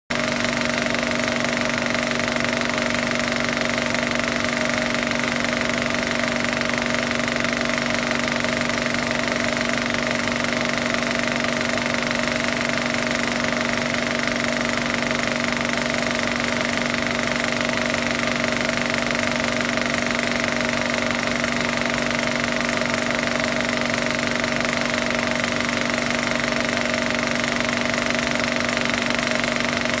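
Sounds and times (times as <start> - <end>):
rough mechanical drone with whine: 0.2 - 30.0.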